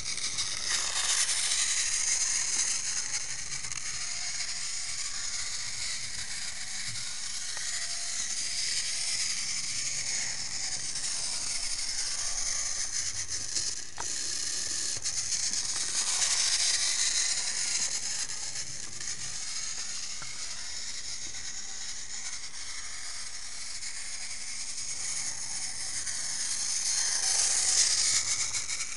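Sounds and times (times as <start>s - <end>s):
toy train motor whirring: 0.0s - 28.9s
toy wheels clicking on track: 0.0s - 28.9s.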